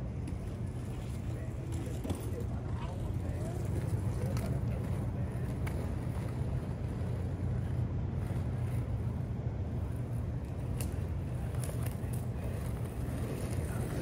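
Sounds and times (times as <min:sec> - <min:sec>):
skate wheels rolling over bricks: 0:00.0 - 0:14.0.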